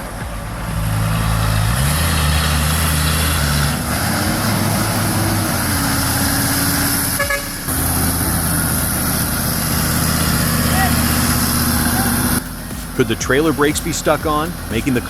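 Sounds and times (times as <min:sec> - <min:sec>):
heavy truck engine droning: 0:00.0 - 0:15.0.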